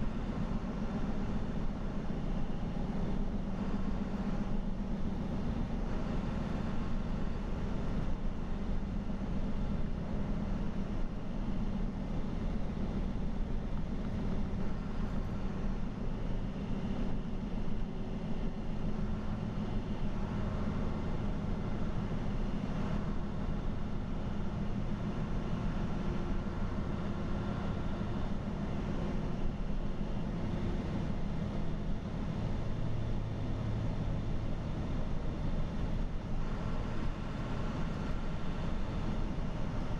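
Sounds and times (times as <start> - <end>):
vehicle engine drone and road noise: 0.0 - 39.9.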